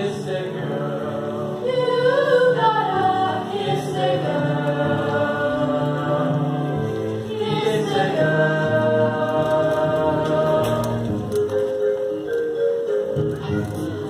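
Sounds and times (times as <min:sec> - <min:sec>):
young voices singing in harmony: 0:00.0 - 0:12.1.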